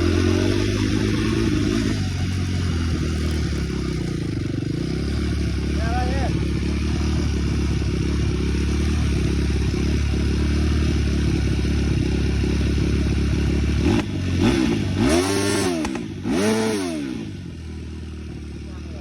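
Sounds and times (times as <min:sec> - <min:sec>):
small engine idling and revving: 0:00.0 - 0:19.0.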